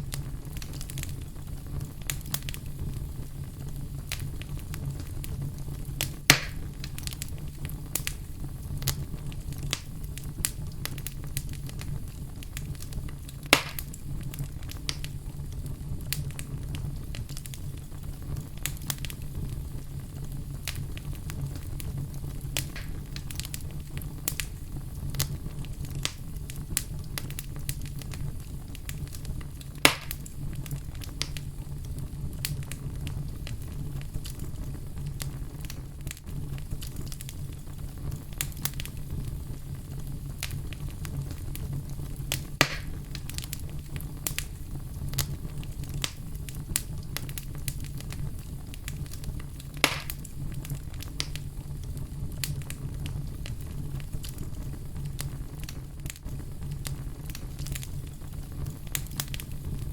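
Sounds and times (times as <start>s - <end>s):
loud fire pops: 0.0s - 59.9s
low fire rumble: 0.0s - 59.9s
wood fire crackling: 0.0s - 59.9s.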